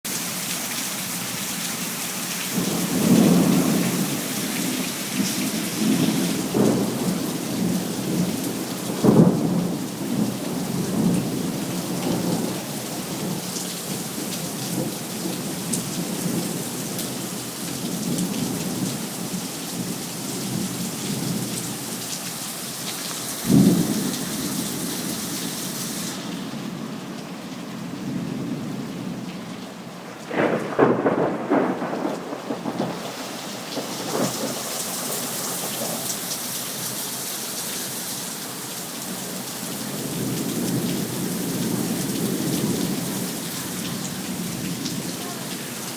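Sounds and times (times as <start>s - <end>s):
heavy rain falling: 0.1s - 45.9s.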